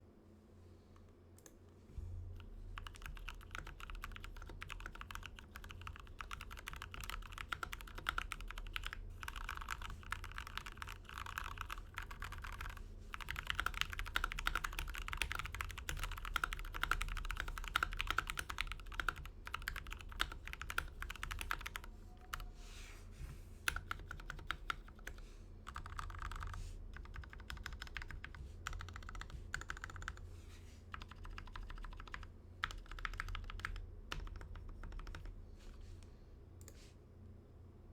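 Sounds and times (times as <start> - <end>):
fast mechanical keyboard typing: 2.8 - 22.4, 23.7 - 30.2, 30.9 - 35.4.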